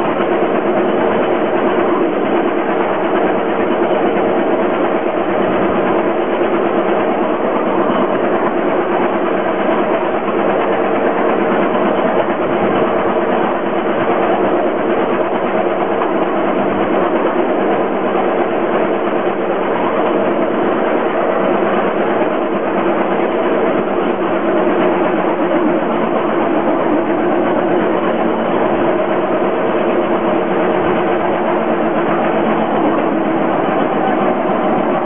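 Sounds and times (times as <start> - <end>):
rail trolley engine drone: 0.0 - 35.0.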